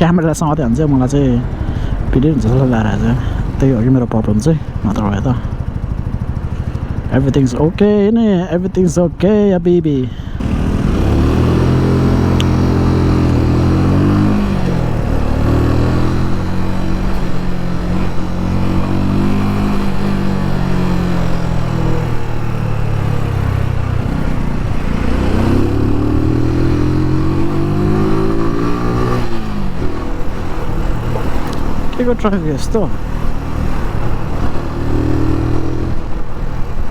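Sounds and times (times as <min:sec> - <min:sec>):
motorcycle engine accelerating: 0:00.0 - 0:09.5, 0:10.2 - 0:36.9.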